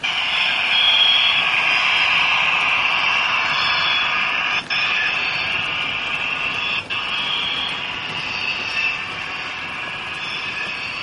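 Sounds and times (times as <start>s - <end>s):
model train running on rails: 0.0s - 11.0s.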